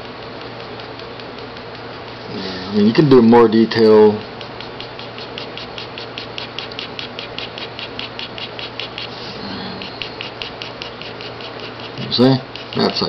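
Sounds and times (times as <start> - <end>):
pen scratching on paper: 0.0 - 13.0.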